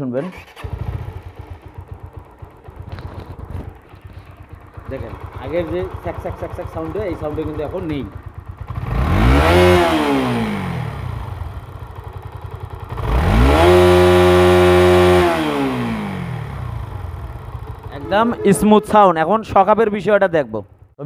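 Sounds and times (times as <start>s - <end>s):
motorcycle engine idling and revving: 0.3s - 21.0s.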